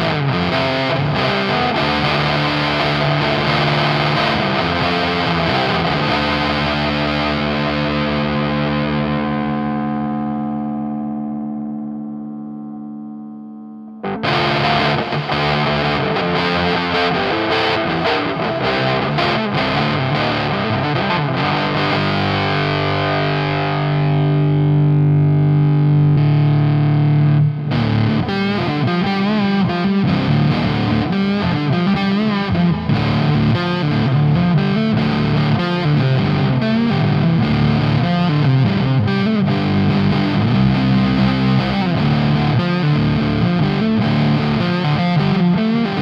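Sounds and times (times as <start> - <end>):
distorted electric guitar: 0.0 - 46.0.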